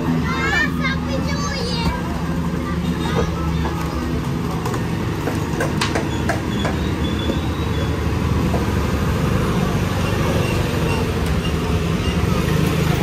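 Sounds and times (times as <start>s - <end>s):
light-rail train rumbling: 0.0s - 13.0s.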